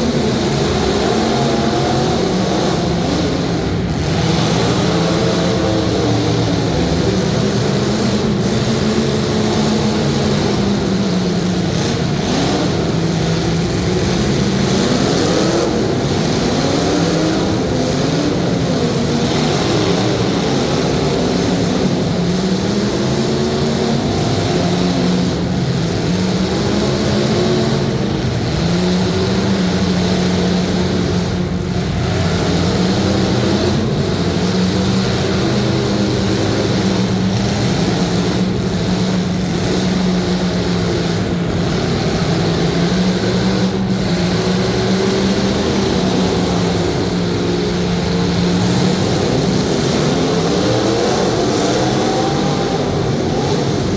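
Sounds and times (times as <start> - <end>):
car engines revving: 0.0 - 53.9
constant wash of noise: 0.0 - 53.9.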